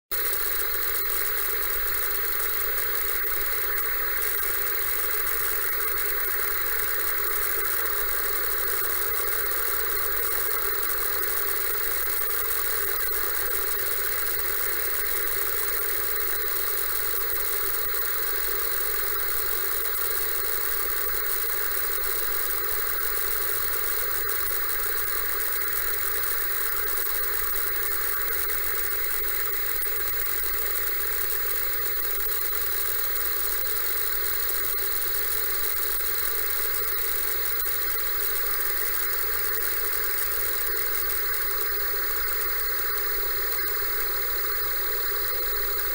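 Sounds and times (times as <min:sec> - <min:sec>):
television hiss with crackles: 0:00.2 - 0:45.9.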